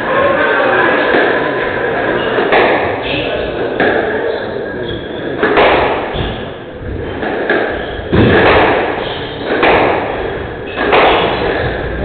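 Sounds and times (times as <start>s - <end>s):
squash ball hits echoing: 1.0s - 4.3s, 4.9s - 12.0s.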